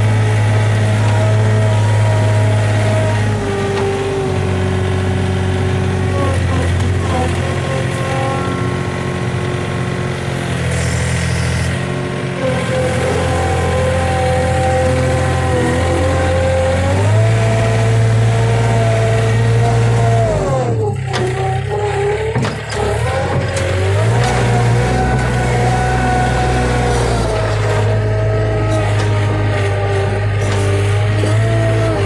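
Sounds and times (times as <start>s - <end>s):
farm machine engine running: 0.0s - 32.0s.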